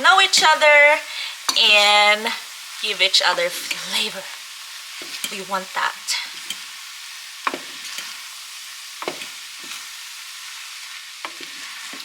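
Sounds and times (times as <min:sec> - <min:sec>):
food sizzling in a hot pan: 0:00.0 - 0:12.0.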